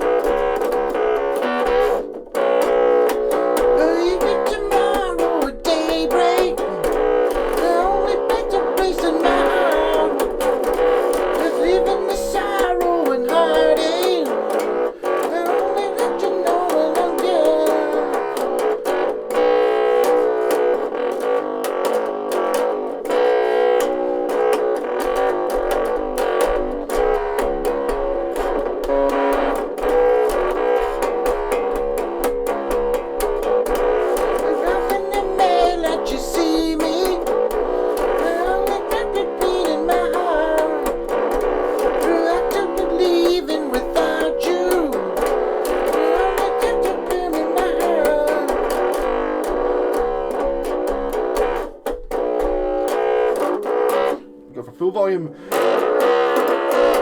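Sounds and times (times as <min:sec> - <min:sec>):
electric bass guitar rock riff: 0:00.0 - 0:54.6, 0:55.3 - 0:57.0.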